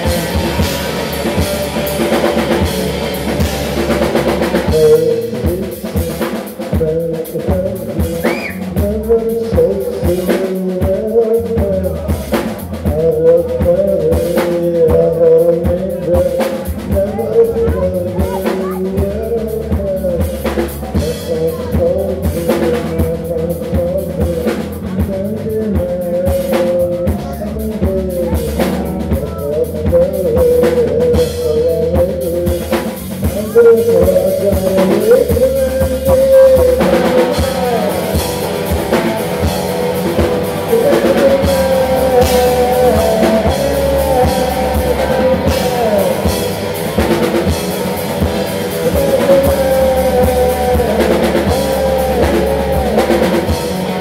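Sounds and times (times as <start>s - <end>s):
electric guitar: 0.0s - 11.0s, 11.6s - 54.0s
bass guitar: 0.0s - 54.0s
drum kit: 0.0s - 54.0s.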